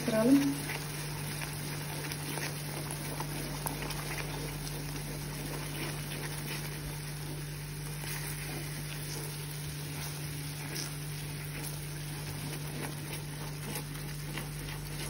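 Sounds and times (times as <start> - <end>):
caramel sauce bubbling in a pan: 0.0 - 15.0
steady low hum: 0.0 - 15.0
wooden spoon stirring: 0.0 - 15.0.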